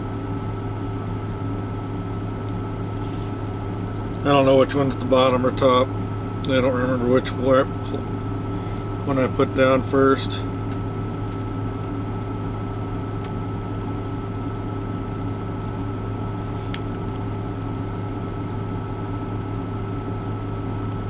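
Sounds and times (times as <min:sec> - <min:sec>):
truck engine idling drone: 0:00.0 - 0:20.8.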